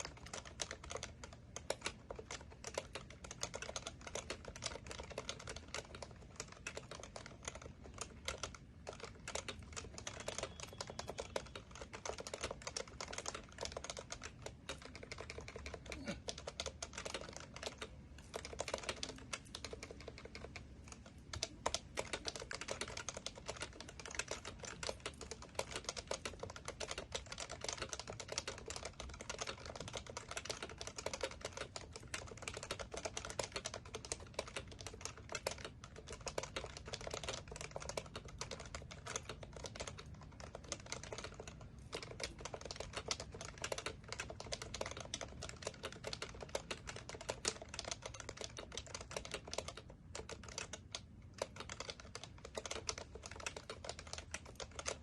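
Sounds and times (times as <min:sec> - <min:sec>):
keyboard keys clacking: 0:00.0 - 0:55.0.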